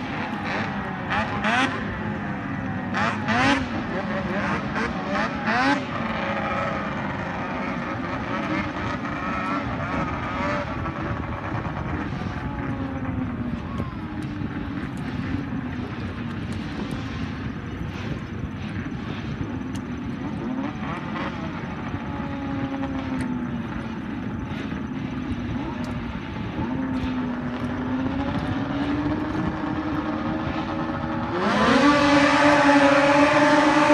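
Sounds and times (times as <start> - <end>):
snowmobile engines droning: 0.0 - 33.9.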